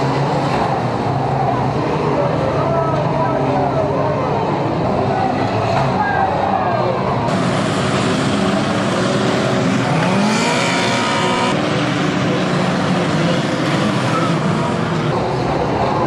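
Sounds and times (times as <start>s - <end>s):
racing car engines revving: 0.0s - 16.0s.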